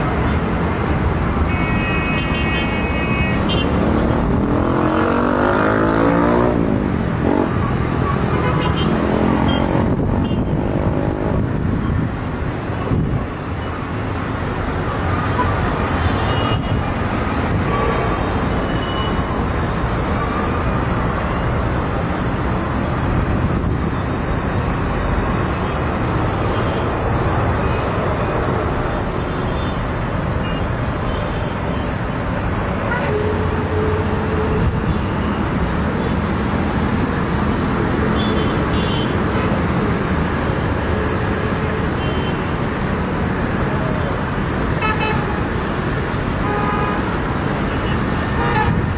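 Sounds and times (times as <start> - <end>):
vehicle engine and traffic: 0.0 - 48.9.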